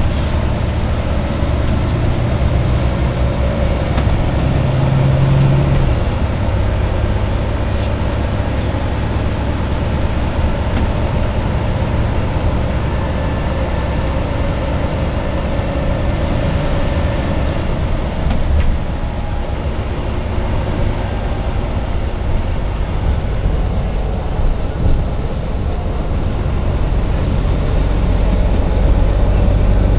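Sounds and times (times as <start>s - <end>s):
bus engine and road rumble: 0.0s - 29.9s.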